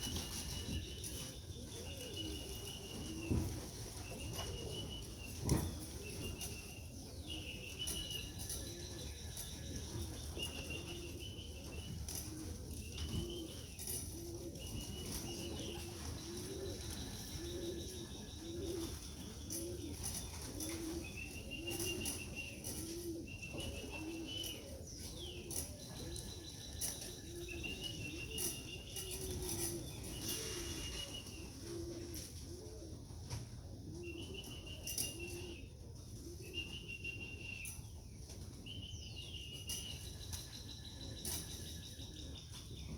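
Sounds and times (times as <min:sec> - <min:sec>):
pigeons cooing: 0:00.0 - 0:42.9.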